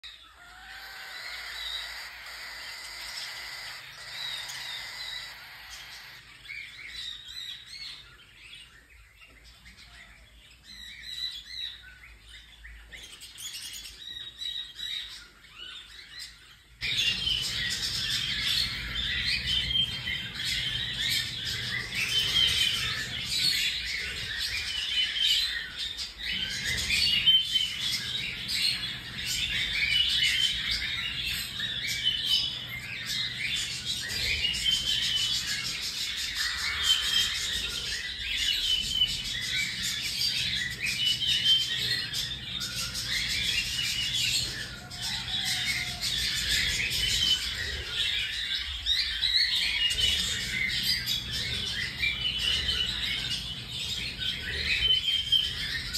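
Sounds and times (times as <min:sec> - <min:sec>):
cockatiels chirping and calling: 0:00.0 - 0:55.9.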